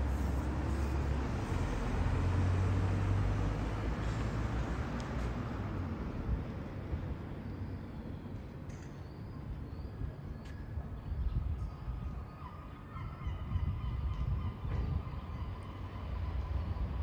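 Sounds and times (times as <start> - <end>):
low street rumble: 0.0 - 17.0.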